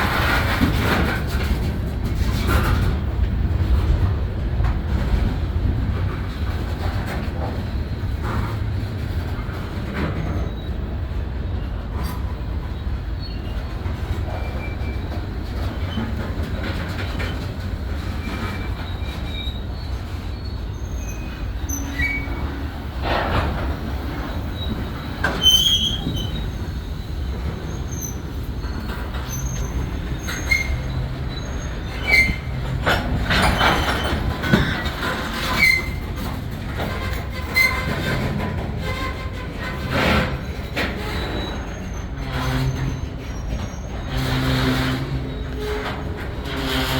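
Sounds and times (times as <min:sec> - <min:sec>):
train rumbling on rails: 0:00.0 - 0:46.9
wheel squeals: 0:09.3 - 0:46.9.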